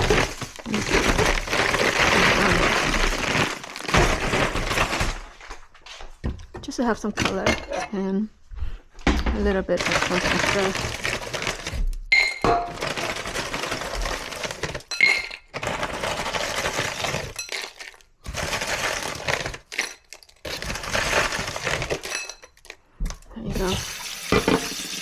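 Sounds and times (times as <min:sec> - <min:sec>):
frozen vegetables rattling: 0:00.0 - 0:05.6, 0:06.9 - 0:07.7, 0:09.8 - 0:24.8.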